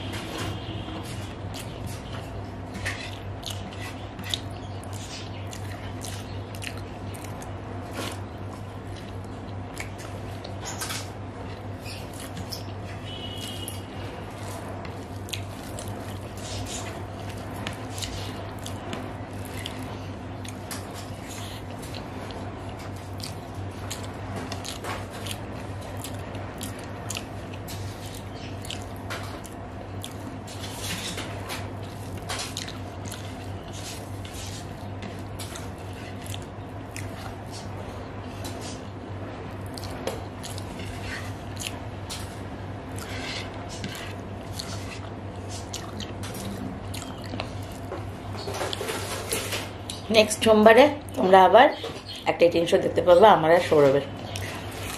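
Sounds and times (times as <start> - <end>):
steady low hum: 0.0 - 54.9
mouth chewing and smacking: 3.1 - 10.8, 11.4 - 48.9, 54.2 - 54.9.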